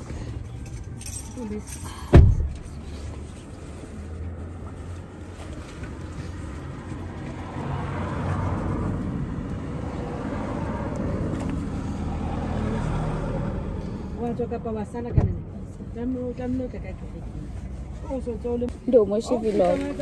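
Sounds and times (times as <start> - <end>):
low vehicle rumble: 0.0 - 20.0.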